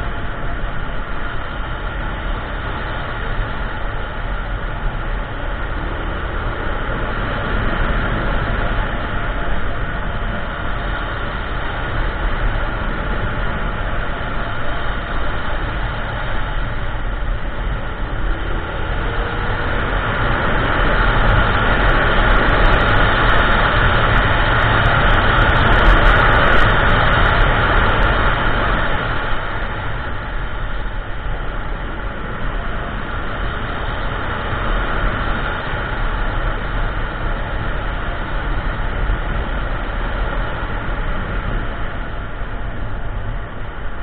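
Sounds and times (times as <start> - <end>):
road noise: 0.0 - 44.0
scooter engine drone: 0.0 - 44.0
wind buffeting microphone: 0.0 - 44.0.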